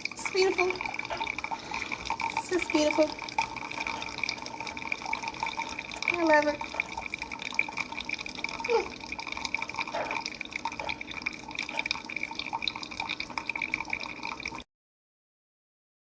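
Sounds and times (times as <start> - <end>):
coffee dripping into a cup: 0.0 - 14.6.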